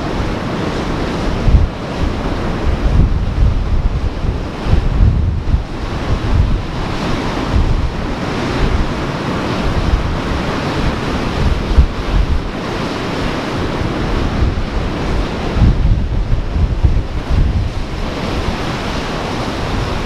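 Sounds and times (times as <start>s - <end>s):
ocean surf washing: 0.0s - 20.0s
wind buffeting microphone: 0.0s - 20.0s.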